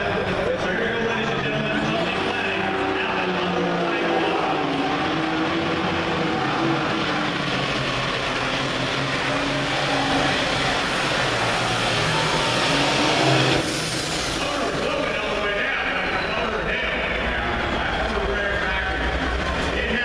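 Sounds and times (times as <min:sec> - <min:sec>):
diesel tractor engine roaring: 0:00.0 - 0:20.0.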